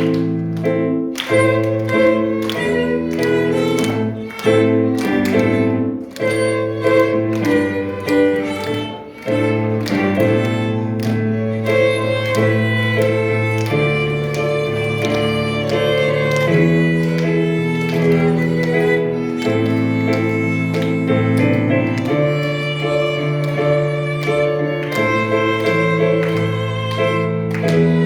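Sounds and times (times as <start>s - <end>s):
violin melody: 0.0s - 28.0s
low sustained cello notes: 1.3s - 28.0s.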